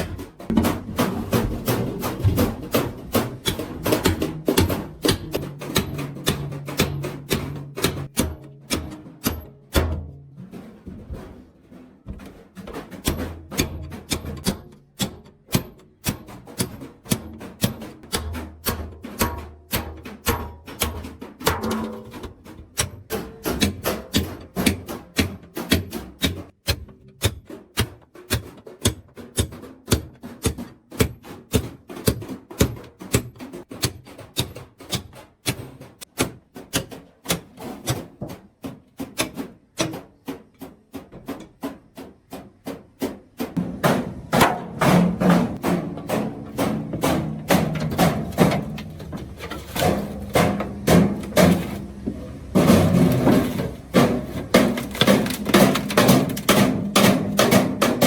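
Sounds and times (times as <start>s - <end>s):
hammers beating steel: 0.0s - 58.0s.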